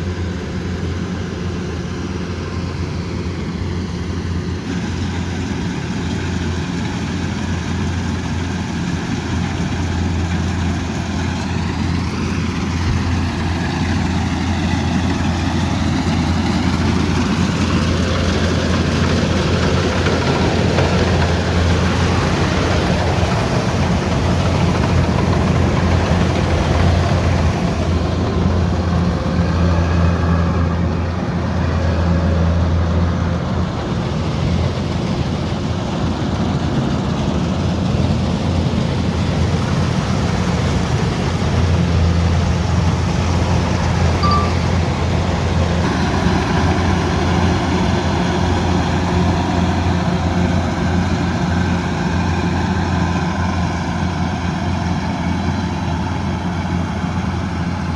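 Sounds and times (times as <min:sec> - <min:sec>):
combine harvester running: 0:00.0 - 0:57.9.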